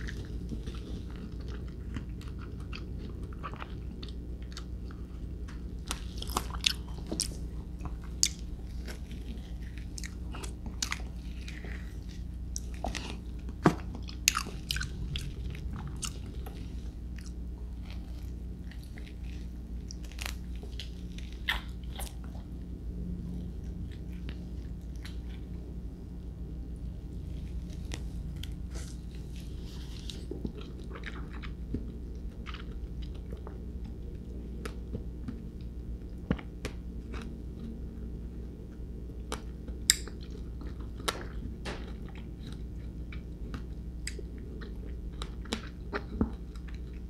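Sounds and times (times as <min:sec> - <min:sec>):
wet chewing mouth sounds: 0:00.0 - 0:22.6, 0:27.2 - 0:35.4, 0:38.7 - 0:47.0.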